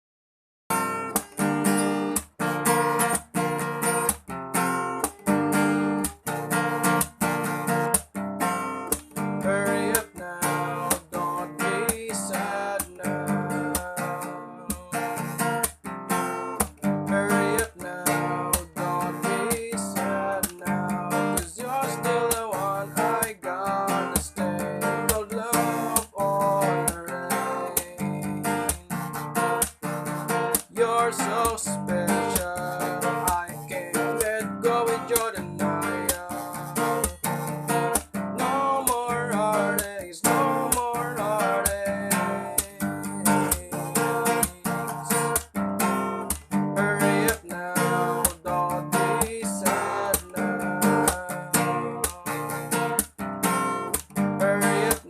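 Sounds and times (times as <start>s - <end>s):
strummed guitar chords: 0.7s - 55.0s.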